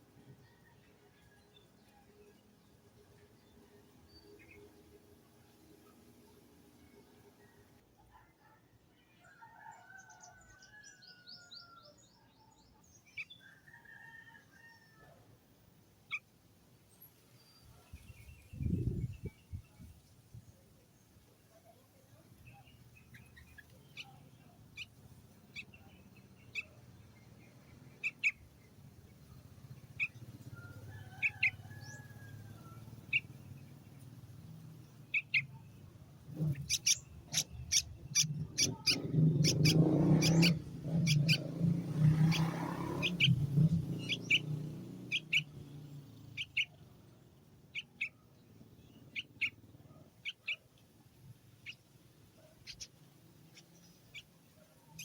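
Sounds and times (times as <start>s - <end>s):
small birds chirping: 0.0s - 8.3s, 9.8s - 14.9s, 15.8s - 55.0s.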